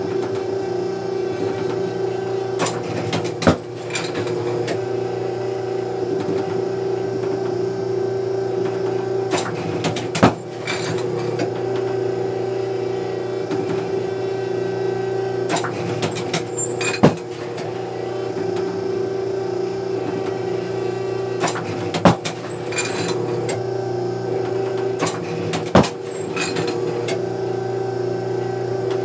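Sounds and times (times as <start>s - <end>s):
trap machine motor humming: 0.0s - 29.0s.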